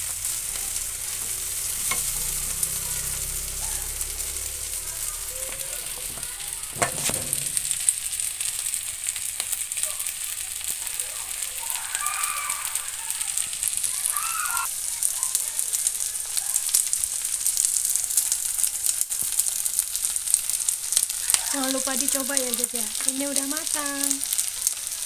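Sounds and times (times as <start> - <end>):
rice sizzling in a frying pan: 0.0 - 25.0.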